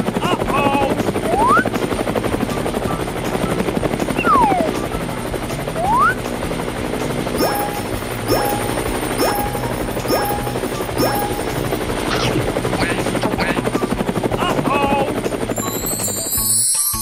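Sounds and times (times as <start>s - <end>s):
toy propeller plane buzzing: 0.0s - 17.0s.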